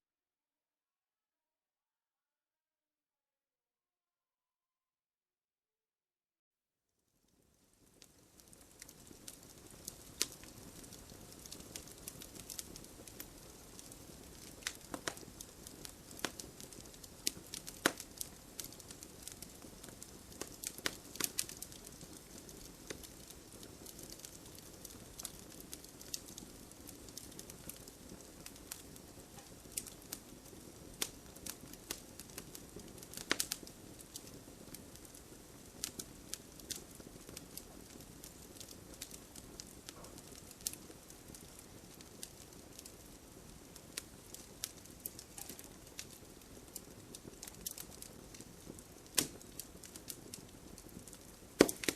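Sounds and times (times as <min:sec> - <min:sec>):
soft steady hiss: 0:07.0 - 0:51.9
fire crackling and popping: 0:07.2 - 0:51.9.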